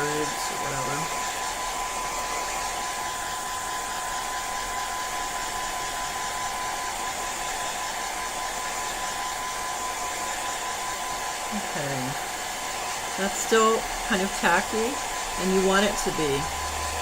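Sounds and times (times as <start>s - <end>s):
small electric fan whirring: 0.0s - 17.0s.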